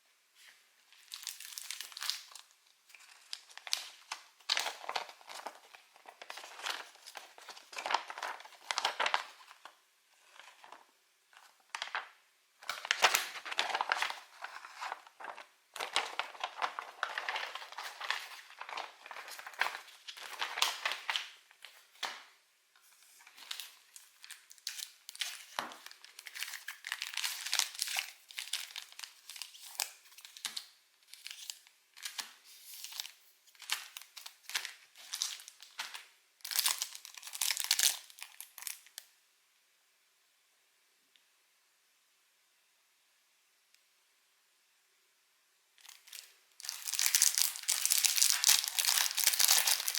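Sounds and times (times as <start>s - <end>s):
plastic wrappers crinkling and tearing: 0.4s - 10.8s, 11.4s - 22.3s, 23.0s - 39.0s, 45.8s - 49.9s.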